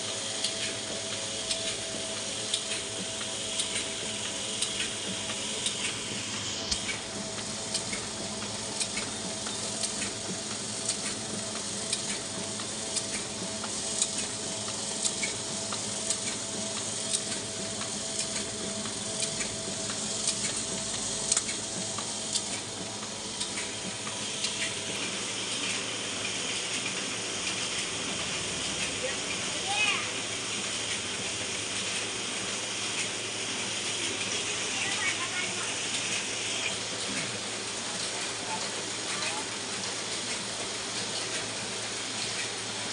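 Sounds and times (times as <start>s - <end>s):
printing press running: 0.0s - 42.9s.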